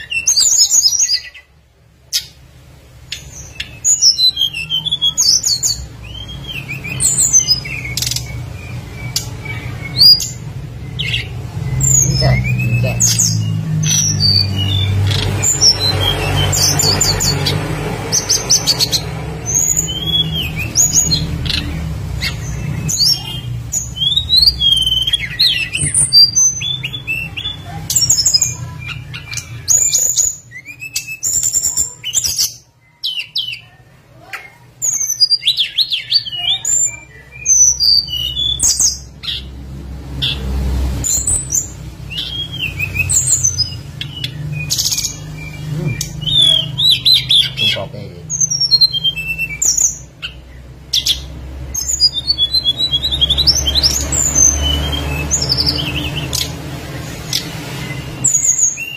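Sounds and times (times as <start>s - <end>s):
songbird chirps and whistles: 3.1s - 17.6s, 18.2s - 39.5s, 41.0s - 58.9s.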